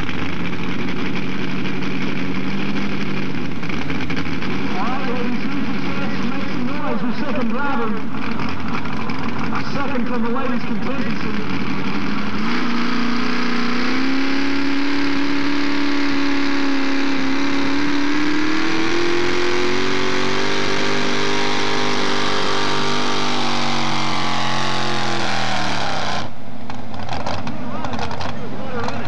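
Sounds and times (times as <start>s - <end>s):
truck engine under load: 0.0s - 29.0s.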